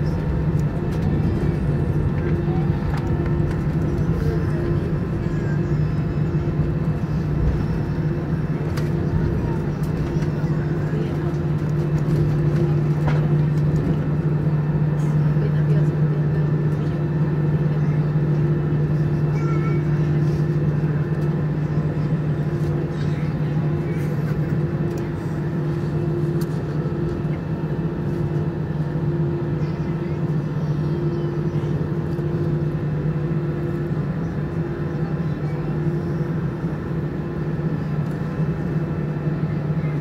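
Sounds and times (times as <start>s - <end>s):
jet cabin drone: 0.0s - 40.0s.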